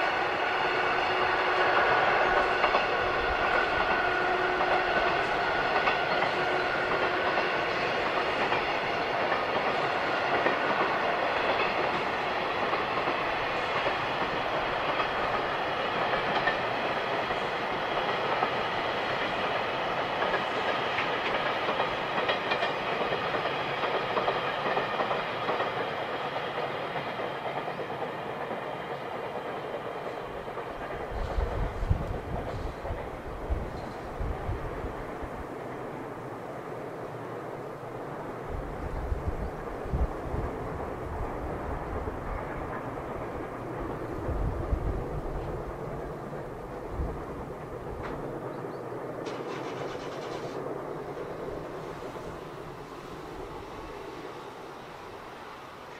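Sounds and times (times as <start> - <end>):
freight train wheels rumbling on rail: 0.0 - 55.9.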